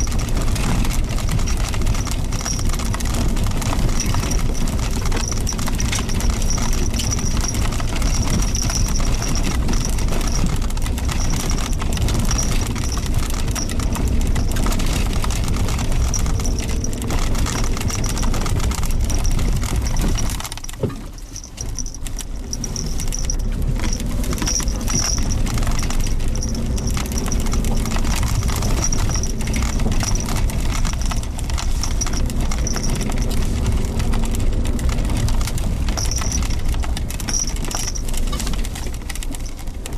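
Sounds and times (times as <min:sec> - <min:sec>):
car engine running: 0:00.0 - 0:39.9
knocks and rattles: 0:00.0 - 0:39.9
tyres crunching over gravel: 0:00.0 - 0:39.9.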